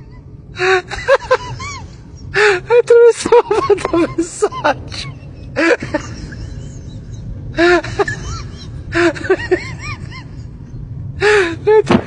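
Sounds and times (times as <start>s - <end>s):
high-pitched laughter: 0.0s - 10.7s
steady low hum: 0.0s - 12.0s.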